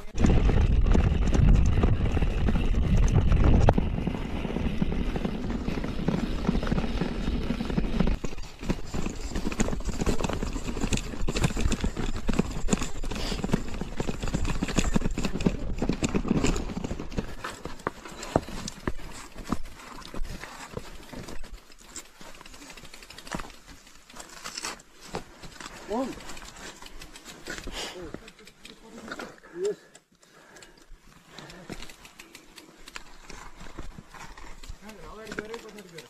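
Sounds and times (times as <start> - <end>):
bike rattling and knocking: 0.0 - 29.0, 31.1 - 36.0.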